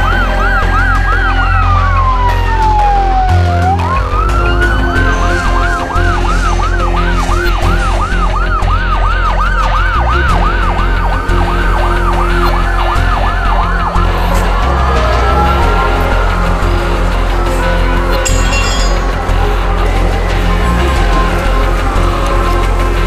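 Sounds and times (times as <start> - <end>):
fast yelping siren: 0.0 - 19.1
slow wailing siren: 0.0 - 23.0.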